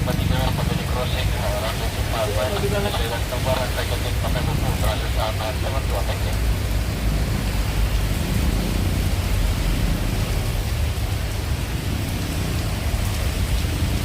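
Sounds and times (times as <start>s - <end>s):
heavy low rumble: 0.0s - 14.0s
steady rain falling: 0.0s - 14.0s.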